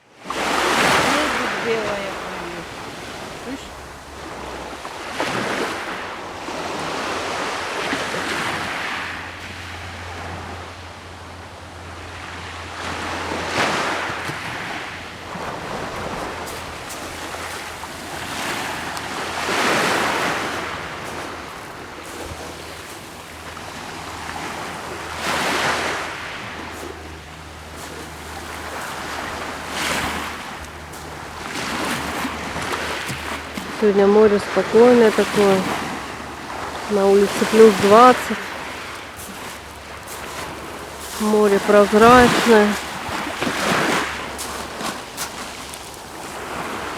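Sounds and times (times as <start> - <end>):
small waves breaking on shore: 0.0 - 46.9.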